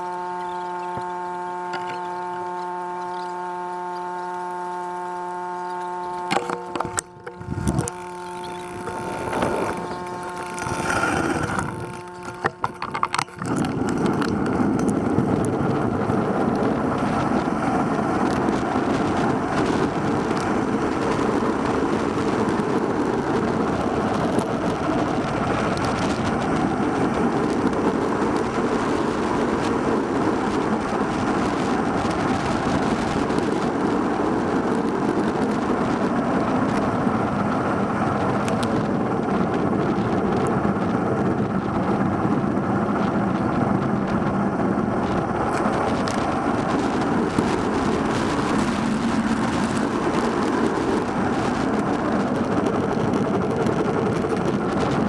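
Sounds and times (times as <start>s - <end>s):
steady hum: 0.0s - 55.0s
wind and road noise while cycling: 0.0s - 55.0s.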